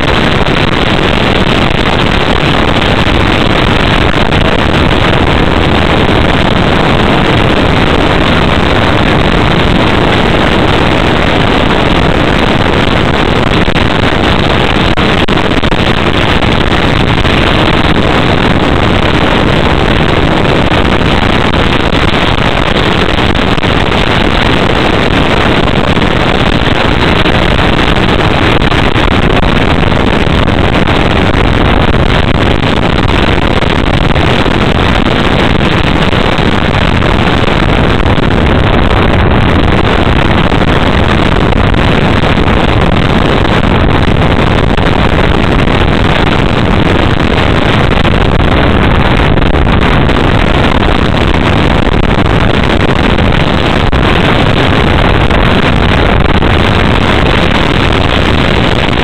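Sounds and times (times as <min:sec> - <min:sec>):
rush of air noise: 0:00.0 - 0:59.0.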